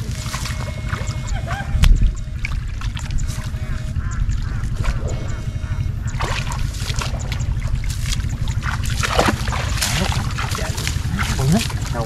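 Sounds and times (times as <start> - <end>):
steady low rumble: 0.0 - 12.0
water splashing and sloshing: 0.0 - 12.0.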